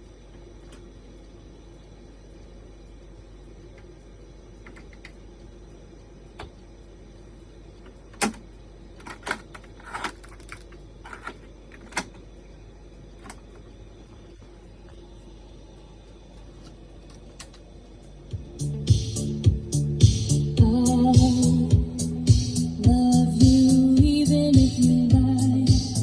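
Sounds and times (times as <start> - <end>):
low hum and hiss: 0.0 - 26.0.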